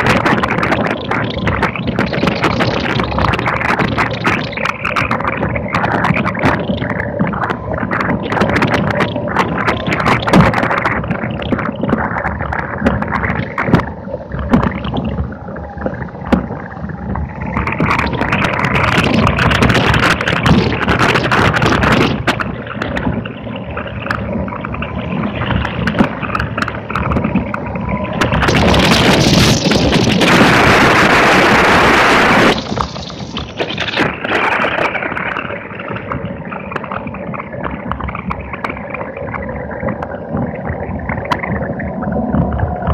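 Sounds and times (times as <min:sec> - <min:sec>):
sharp clicks and rattles: 0:00.0 - 0:42.9
wind and tyres on wet track: 0:00.0 - 0:42.9.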